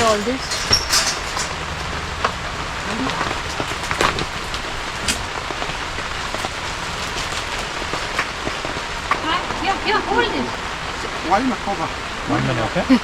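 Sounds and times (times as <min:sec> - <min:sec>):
heavy rain falling: 0:00.0 - 0:13.0
rain drop taps: 0:00.0 - 0:13.0.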